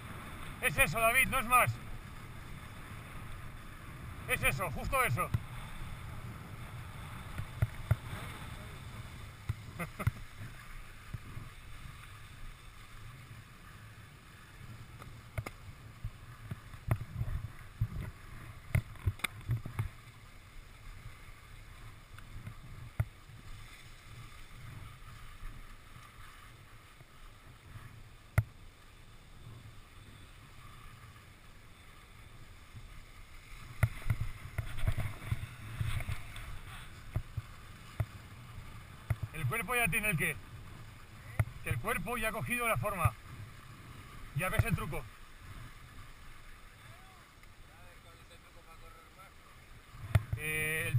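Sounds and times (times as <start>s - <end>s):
wind rumbling on microphone: 0.0s - 28.6s, 32.1s - 47.1s
skis carving over snow: 0.0s - 50.9s.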